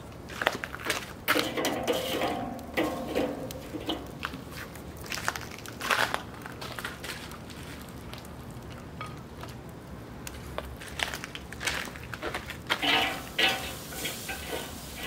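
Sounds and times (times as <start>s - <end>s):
charcoal crunching and clinking: 0.0s - 15.0s
fire ticks and crackles: 0.0s - 15.0s.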